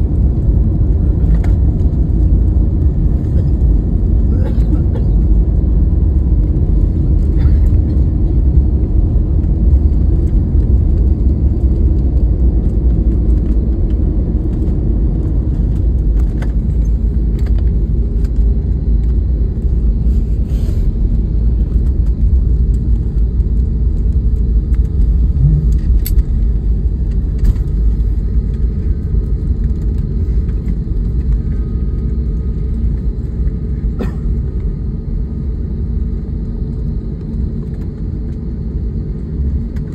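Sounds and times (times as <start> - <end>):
airliner rolling low rumble: 0.0 - 39.9.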